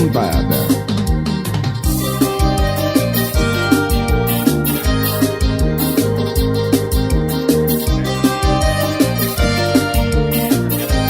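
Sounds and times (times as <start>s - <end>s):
band music with driving beat: 0.0s - 11.0s
sustained keyboard chords: 0.0s - 11.0s.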